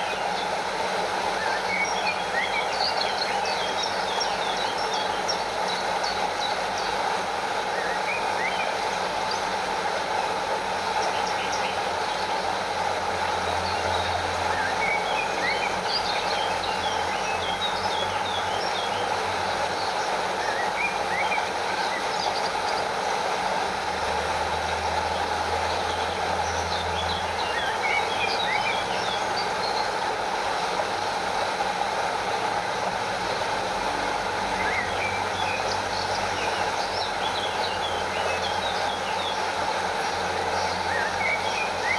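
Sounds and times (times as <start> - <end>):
water rushing over small waterfall: 0.0 - 41.9.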